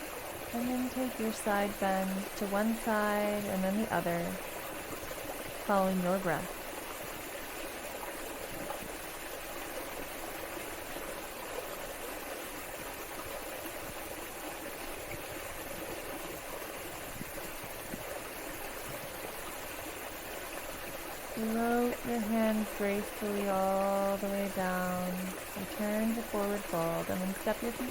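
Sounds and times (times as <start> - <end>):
waterfall and stream rushing: 0.0 - 27.9.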